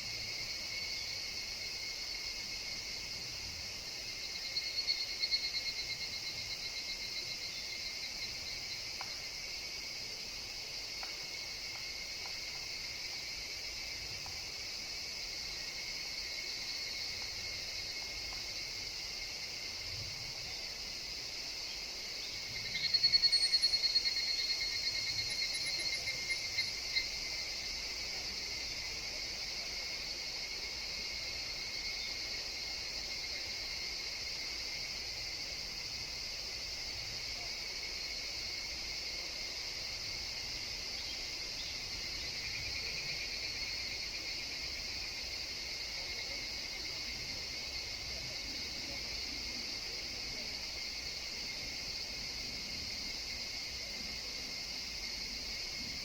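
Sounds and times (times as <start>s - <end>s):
cicadas pulsed trilling: 0.0s - 56.0s
high insect chorus: 0.0s - 56.0s.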